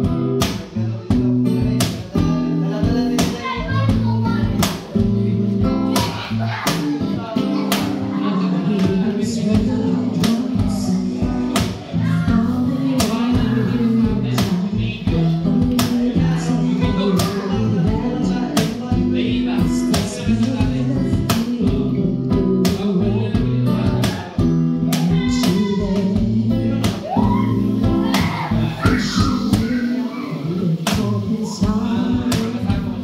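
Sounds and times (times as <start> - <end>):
acoustic guitar strumming: 0.0 - 33.0
cajon beat: 0.0 - 33.0
person singing: 1.8 - 33.0.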